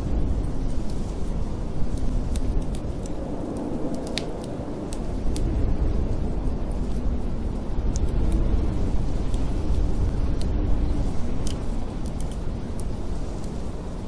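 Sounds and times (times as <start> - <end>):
wind rumbling and howling: 0.0 - 14.0
wood fire crackling and popping: 0.0 - 14.0.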